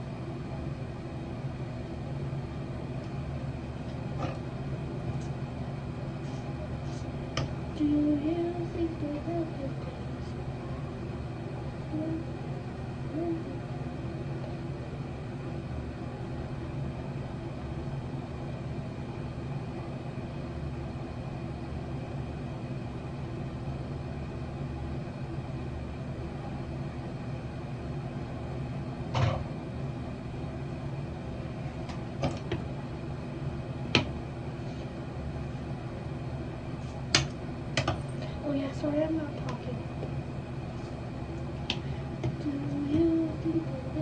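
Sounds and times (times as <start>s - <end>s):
machine hum: 0.0s - 44.0s.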